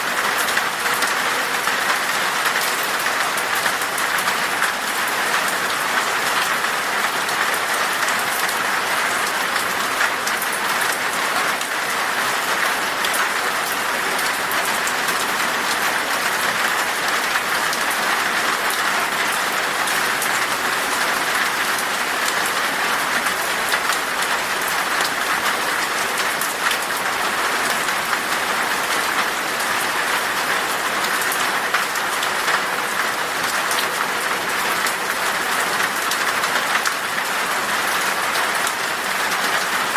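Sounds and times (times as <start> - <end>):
rain falling in forest: 0.0 - 39.9
raindrops pattering: 0.0 - 39.9.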